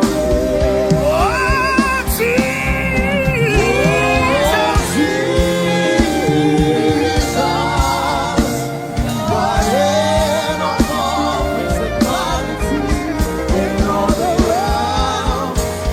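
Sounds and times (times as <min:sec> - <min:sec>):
held instrumental chords: 0:00.0 - 0:15.9
person singing wordless lines: 0:00.0 - 0:15.9.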